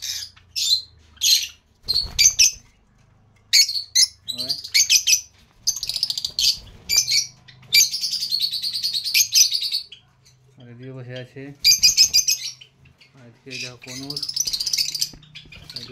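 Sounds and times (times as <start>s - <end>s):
lovebirds chirping: 0.0s - 15.9s.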